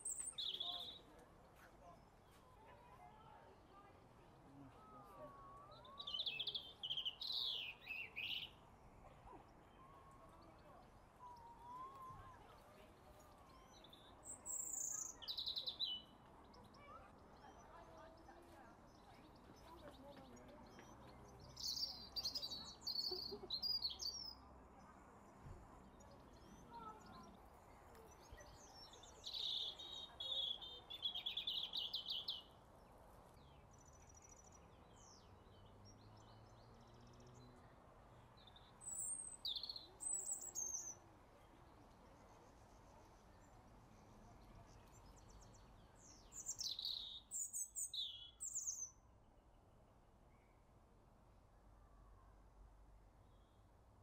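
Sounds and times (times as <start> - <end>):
songbird singing: 0.0 - 2.4, 4.5 - 49.2
faint background noise: 0.0 - 54.0.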